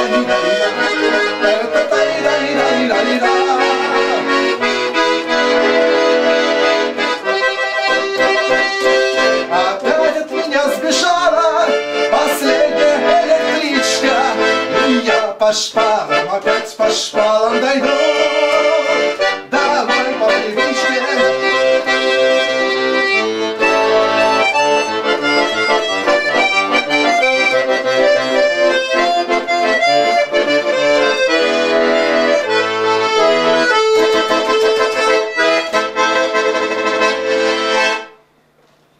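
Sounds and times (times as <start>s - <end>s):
button accordion playing a tune: 0.0s - 38.3s.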